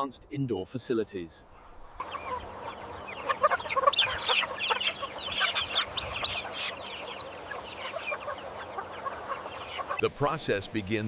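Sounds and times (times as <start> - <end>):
chickens clucking: 1.6 - 11.0.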